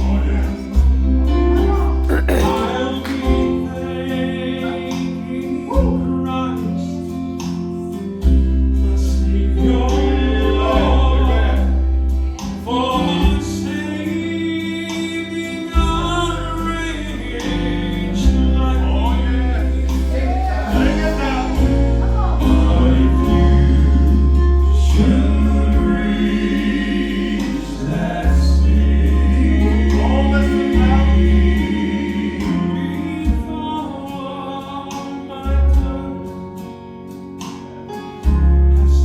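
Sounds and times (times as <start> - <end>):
gospel quartet singing in harmony: 0.0 - 39.0
instrumental accompaniment with bass line: 0.0 - 39.0.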